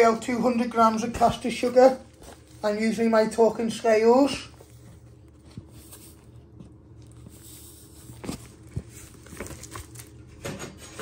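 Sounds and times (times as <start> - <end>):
paper bag crinkling: 0.0 - 10.6
low steady hum: 0.0 - 11.0.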